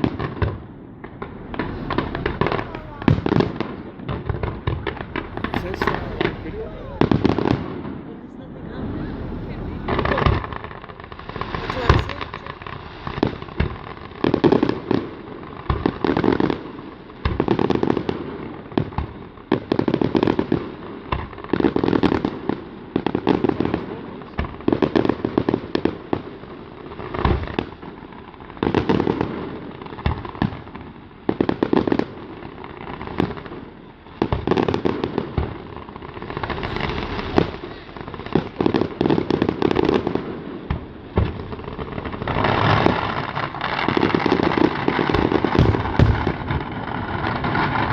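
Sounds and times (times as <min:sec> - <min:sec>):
fireworks crackling: 0:00.0 - 0:47.9.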